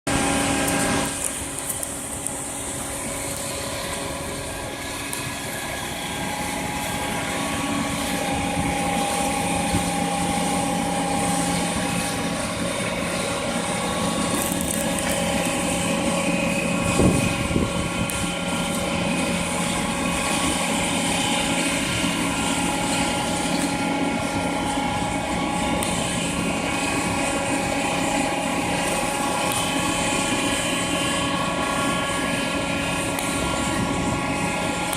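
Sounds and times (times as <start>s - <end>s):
heavy engine droning: 0.1s - 34.9s.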